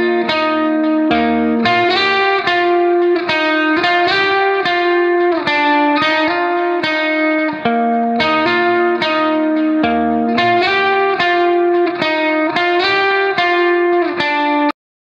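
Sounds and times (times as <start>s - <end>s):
instrumental music of picked notes: 0.0s - 14.7s.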